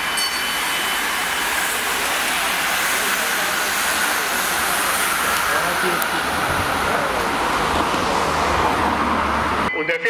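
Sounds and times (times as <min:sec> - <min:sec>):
racing bicycles passing: 0:00.0 - 0:09.7
roadside crowd: 0:00.0 - 0:10.0.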